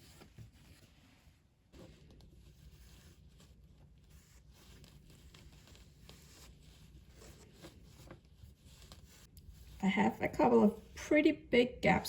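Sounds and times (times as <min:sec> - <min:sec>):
faint scraping and rustling: 0:00.0 - 0:11.1.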